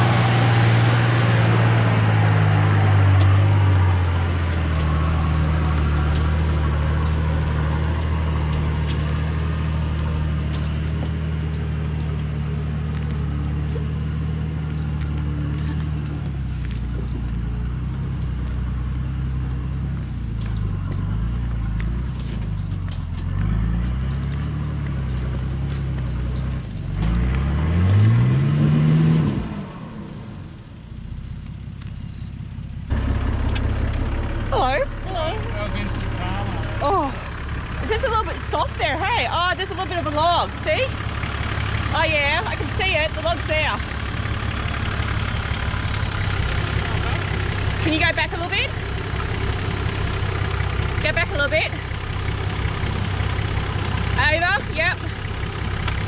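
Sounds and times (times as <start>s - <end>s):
vehicle engine running and revving: 0.0s - 56.0s.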